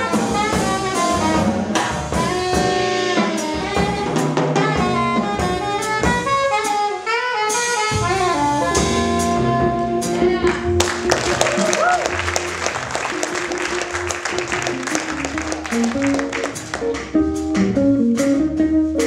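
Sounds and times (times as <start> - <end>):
upright bass: 0.0 - 6.6, 7.9 - 19.0
saxophone melody: 0.0 - 16.8
drum kit with cymbals: 0.0 - 19.0.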